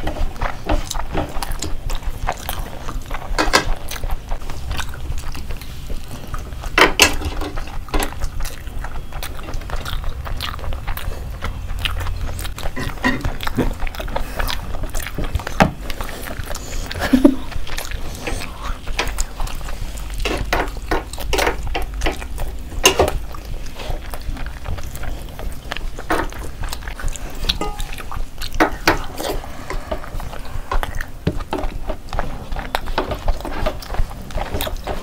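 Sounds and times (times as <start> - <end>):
people chewing wetly: 0.0 - 35.0
rice squelching with gravy: 0.0 - 35.0.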